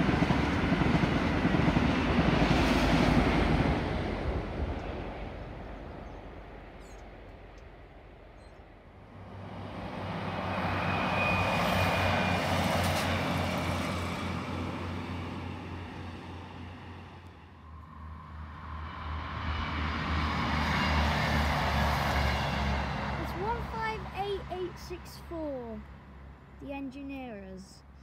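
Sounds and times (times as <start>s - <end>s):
train engine drone and rolling: 0.0s - 28.0s.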